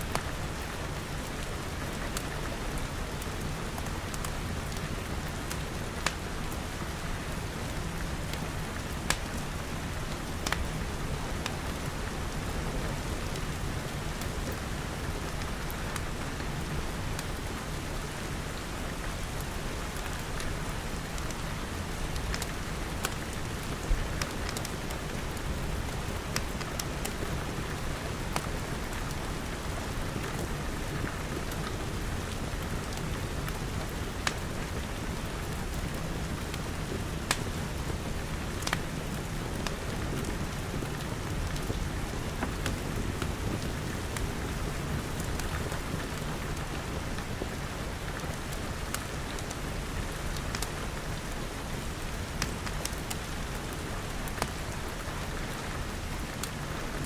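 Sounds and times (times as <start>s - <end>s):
steady rain falling: 0.0s - 57.0s
wood fire crackling: 0.0s - 57.0s.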